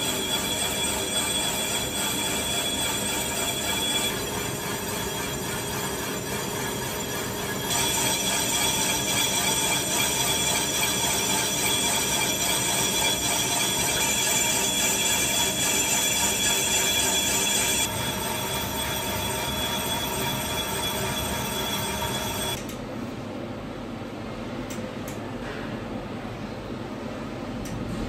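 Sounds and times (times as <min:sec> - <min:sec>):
lathe cutting whine and hiss: 0:00.0 - 0:22.6
machine running hum: 0:00.0 - 0:22.8.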